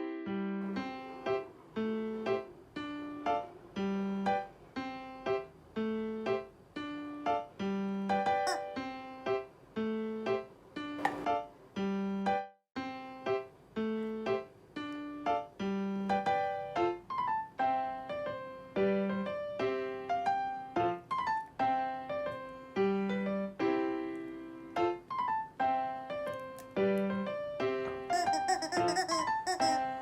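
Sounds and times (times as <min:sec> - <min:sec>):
piano melody: 0:00.0 - 0:30.0.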